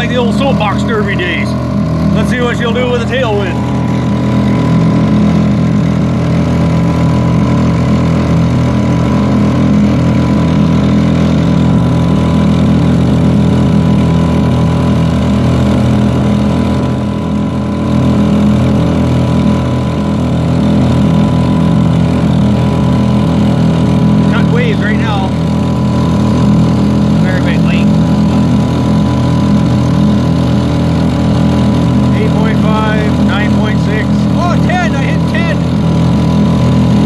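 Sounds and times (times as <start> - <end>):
outboard motor running: 0.0 - 37.0.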